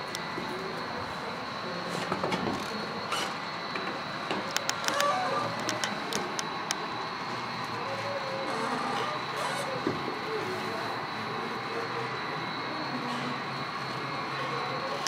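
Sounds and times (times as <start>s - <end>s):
model train mechanical hum: 0.0s - 15.0s.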